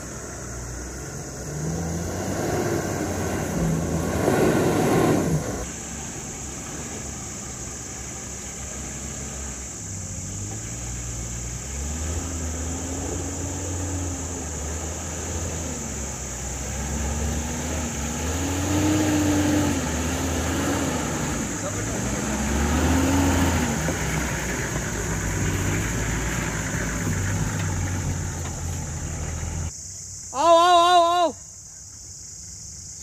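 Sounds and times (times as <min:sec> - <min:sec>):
off-road vehicle engine revving: 0:00.0 - 0:29.7.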